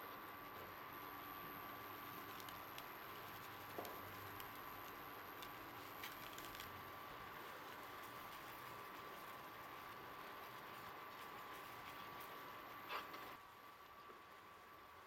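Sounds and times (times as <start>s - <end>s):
faint constant tone: 0.0s - 15.0s
low hiss: 0.0s - 15.0s
noodles simmering in water: 0.0s - 15.0s
small pops and ticks: 1.2s - 13.3s.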